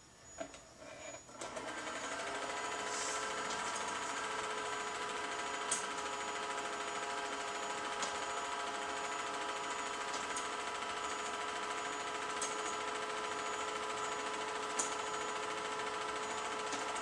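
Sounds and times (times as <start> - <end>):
projector hum: 0.0 - 17.0
film projector whirring: 1.2 - 17.0
small projector clicks: 1.4 - 17.0.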